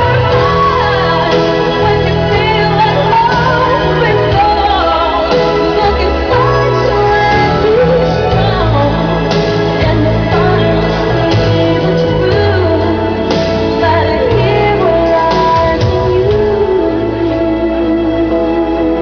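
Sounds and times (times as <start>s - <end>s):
bass line: 0.0s - 19.0s
person singing: 0.0s - 19.0s.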